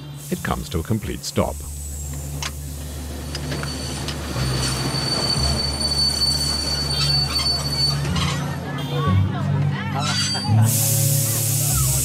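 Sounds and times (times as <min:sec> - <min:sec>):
train rumbling: 0:00.0 - 0:12.0
wheels squealing on rails: 0:01.4 - 0:09.0, 0:09.8 - 0:12.0.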